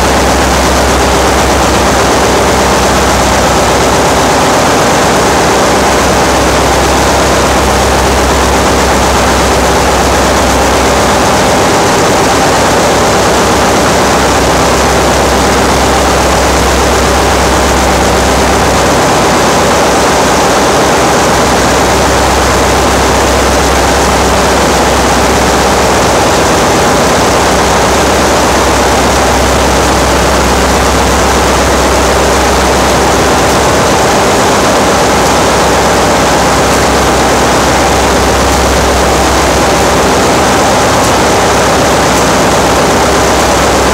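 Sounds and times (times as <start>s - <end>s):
engine room machinery: 0.0s - 43.9s.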